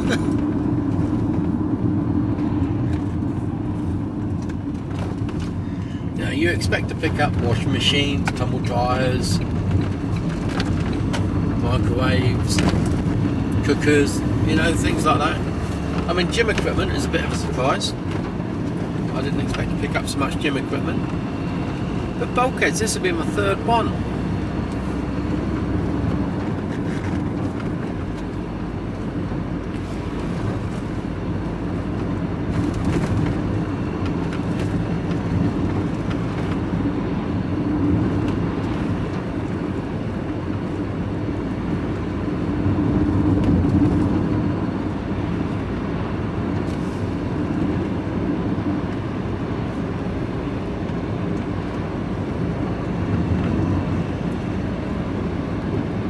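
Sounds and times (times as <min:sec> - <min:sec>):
road noise: 0:00.0 - 0:56.0
truck engine: 0:00.0 - 0:56.0.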